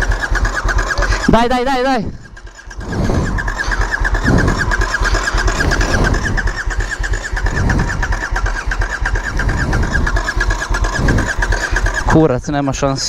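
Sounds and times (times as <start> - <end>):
motorcycle electric starter cranking: 0.0 - 13.0.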